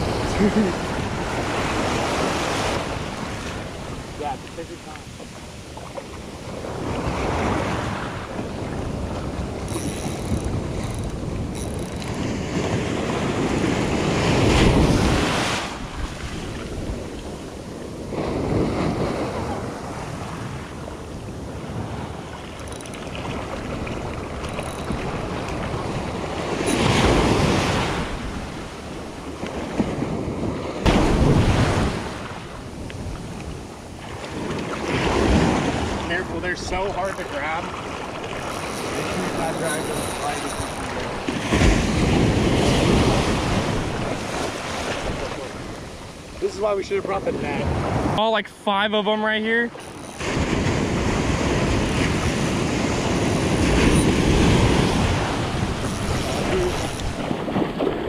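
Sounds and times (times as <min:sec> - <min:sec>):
wind buffeting microphone: 0:00.0 - 0:48.2, 0:49.6 - 0:58.0
small waves breaking: 0:00.0 - 0:58.0.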